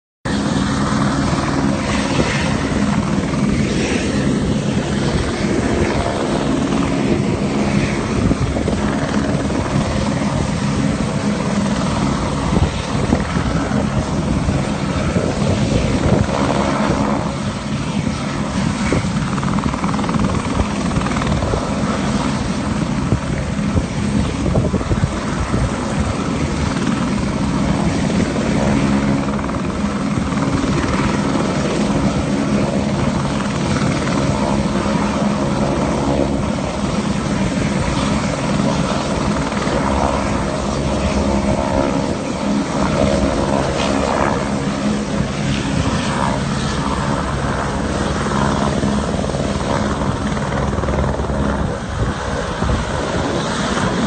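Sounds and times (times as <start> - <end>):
helicopter engine hum: 0.3 - 54.0
helicopter rotor chop: 0.3 - 54.0.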